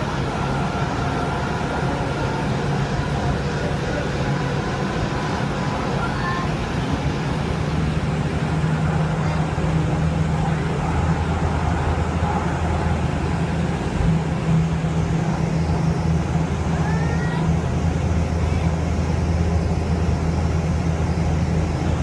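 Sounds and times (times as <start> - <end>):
steady low hum: 0.0 - 22.0
wheels rumbling on track: 0.0 - 22.0.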